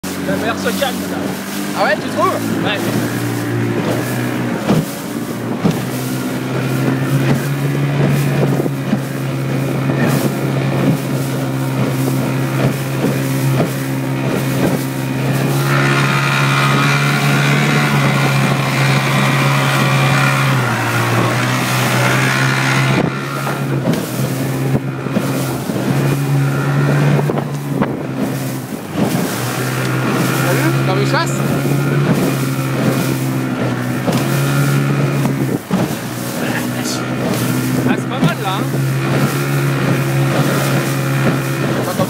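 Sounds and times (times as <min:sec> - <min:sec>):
hull knocking on waves: 0:00.0 - 0:42.0
outboard motor running: 0:00.0 - 0:42.0
water rushing along hull: 0:00.0 - 0:42.0
wind on microphone: 0:00.0 - 0:42.0.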